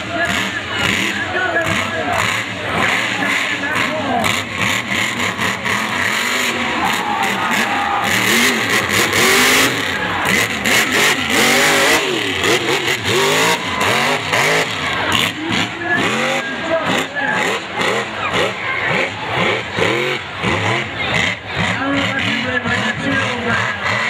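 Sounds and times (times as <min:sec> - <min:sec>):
loud rush of noise: 0:00.0 - 0:24.0
truck engine revving: 0:00.0 - 0:24.0.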